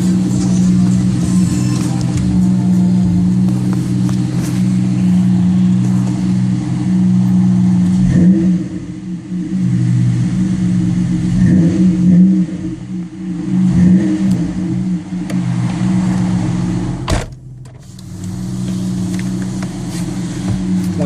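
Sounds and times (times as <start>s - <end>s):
car engine droning through exhaust: 0.0s - 21.0s.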